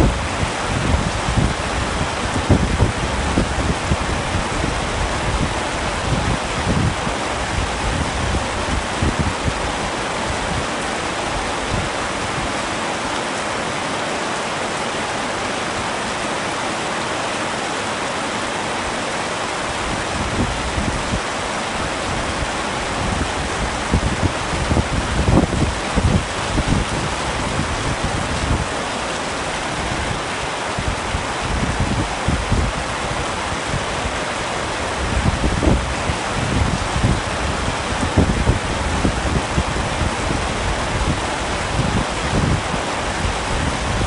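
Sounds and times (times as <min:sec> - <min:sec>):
low gusty rumbles: 0:00.0 - 0:12.6, 0:19.6 - 0:44.0
heavy rain: 0:00.0 - 0:44.0.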